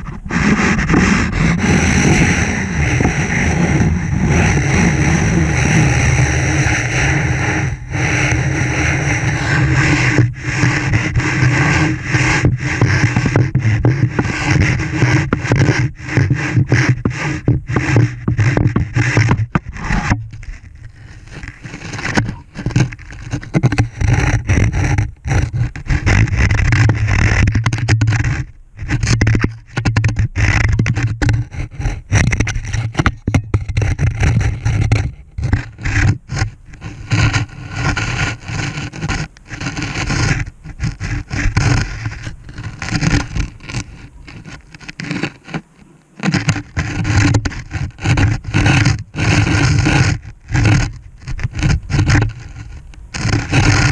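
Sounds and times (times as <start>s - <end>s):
camera scraping against rock walls: 0.0s - 53.9s.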